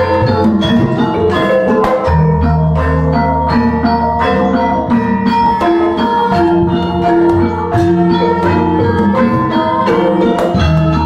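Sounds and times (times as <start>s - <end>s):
gamelan ensemble playing: 0.0s - 11.0s
hand drumming: 0.0s - 11.0s.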